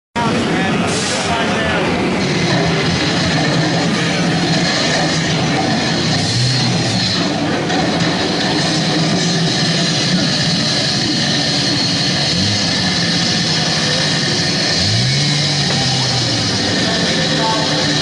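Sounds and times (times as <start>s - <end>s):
chainsaw engine revving: 2.1s - 18.0s.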